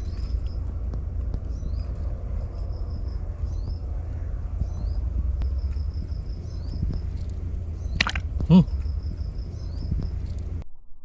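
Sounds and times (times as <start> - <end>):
low rumble: 0.0 - 11.0
insect chirping: 1.5 - 10.6.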